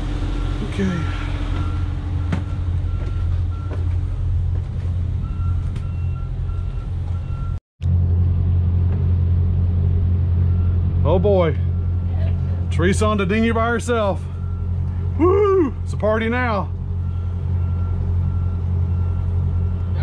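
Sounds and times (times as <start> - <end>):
diesel engines idling: 0.0 - 20.0.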